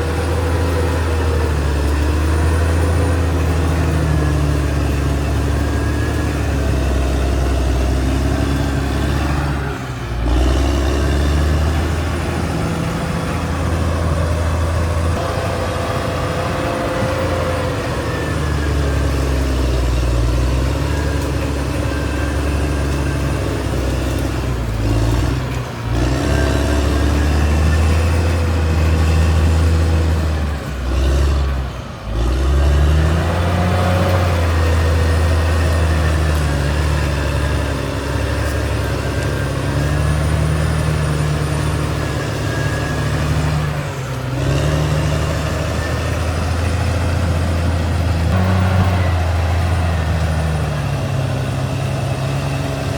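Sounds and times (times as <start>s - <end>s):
bulldozer diesel engine under load: 0.0s - 52.9s.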